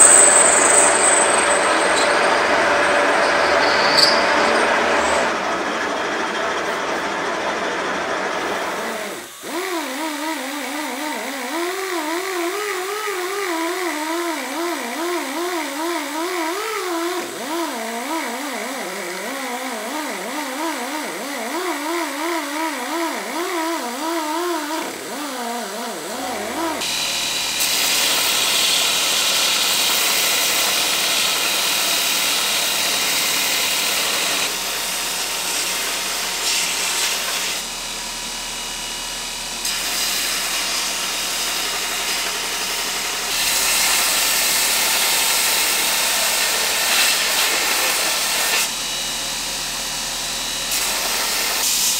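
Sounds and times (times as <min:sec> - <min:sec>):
belt grinder grinding steel: 0:00.0 - 0:37.7, 0:39.6 - 0:51.9
die grinder whining on steel: 0:00.0 - 0:51.9.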